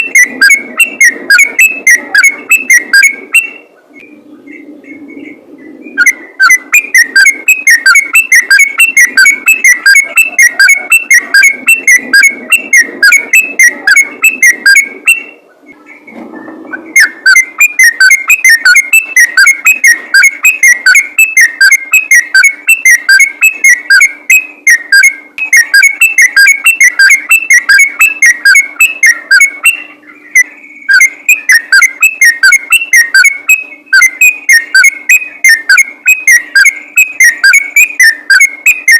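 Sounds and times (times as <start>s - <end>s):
bird singing rapid whistles: 0.0s - 38.9s.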